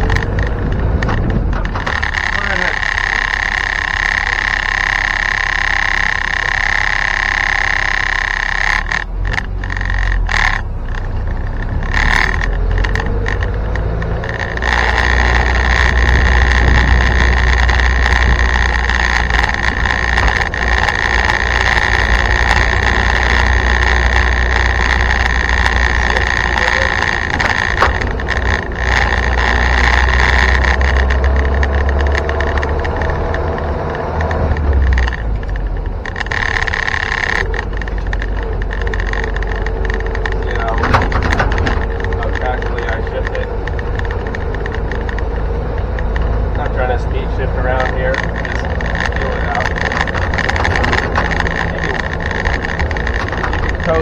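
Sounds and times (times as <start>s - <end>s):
engine and road noise: 0.0s - 54.0s
loud rattle: 0.0s - 54.0s.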